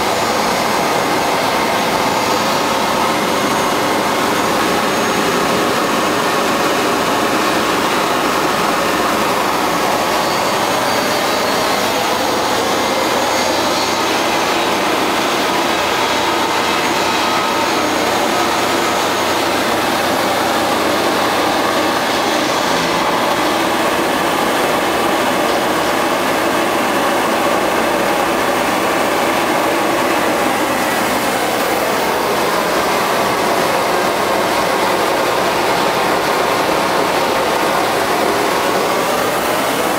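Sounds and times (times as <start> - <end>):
gas burner roaring: 0.0 - 39.9.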